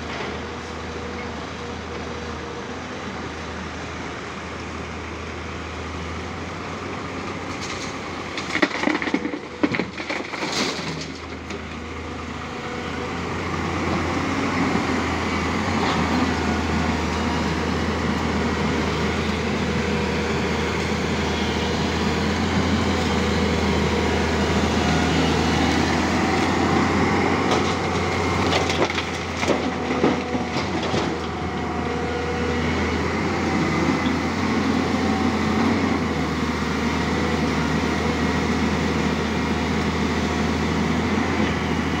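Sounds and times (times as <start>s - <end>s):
excavator diesel engine droning: 0.0s - 42.0s.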